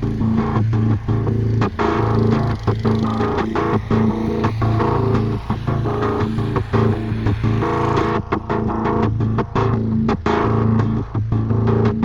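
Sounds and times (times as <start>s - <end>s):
background music with bass and guitar: 0.0s - 12.0s.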